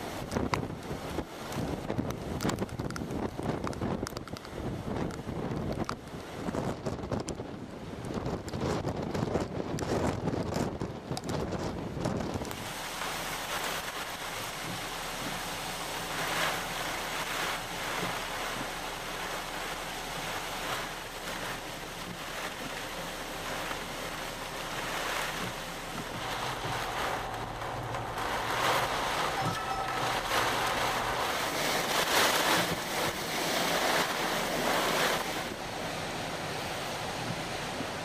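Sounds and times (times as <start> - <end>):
heavy waves breaking: 0.0 - 38.0
wind buffeting microphone: 0.0 - 38.0.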